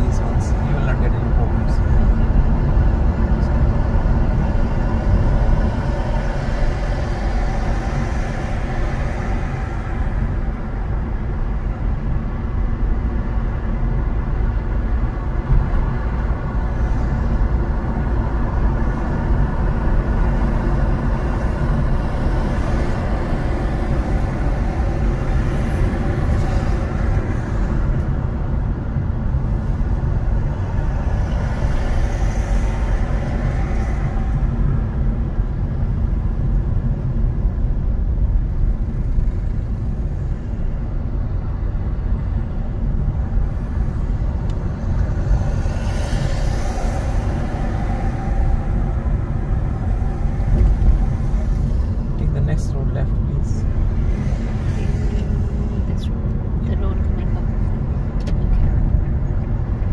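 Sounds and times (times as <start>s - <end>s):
car engine drone: 0.0s - 59.9s.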